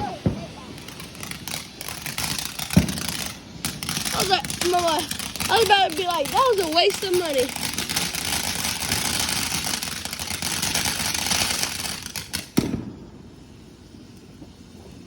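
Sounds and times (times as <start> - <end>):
sharp firework crack: 0.0 - 14.2
firework crackling and hissing: 0.0 - 15.0.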